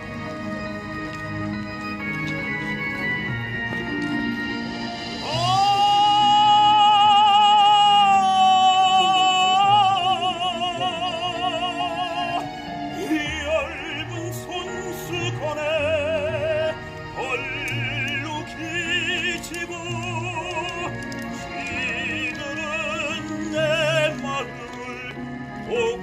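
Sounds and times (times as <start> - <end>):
backing track from speaker: 0.0 - 26.0
man singing operatically: 5.2 - 26.0.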